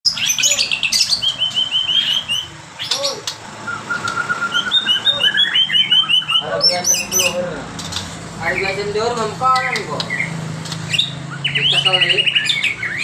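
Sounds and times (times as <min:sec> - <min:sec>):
songbird singing fast trills: 0:00.1 - 0:07.4, 0:09.6 - 0:13.0.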